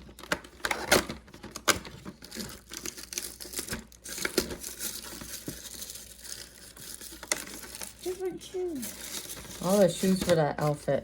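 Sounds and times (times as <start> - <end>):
packaging torn and crinkled: 0.0 - 10.1.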